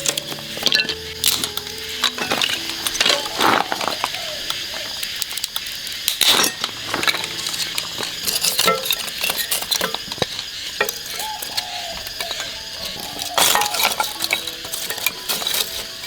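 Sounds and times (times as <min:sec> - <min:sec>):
utensils clinking against cookware: 0:00.0 - 0:04.6, 0:06.1 - 0:16.0
steady sizzle: 0:00.0 - 0:16.0.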